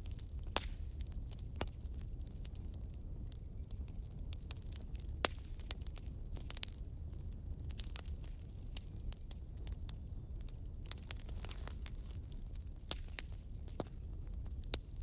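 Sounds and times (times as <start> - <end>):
campfire crackling and popping: 0.0 - 15.0
low rumble of flames: 0.0 - 15.0.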